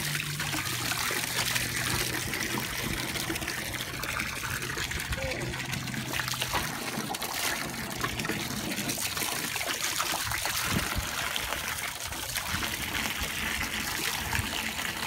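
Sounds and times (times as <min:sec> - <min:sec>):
hose water splashing into tub: 0:00.0 - 0:15.0.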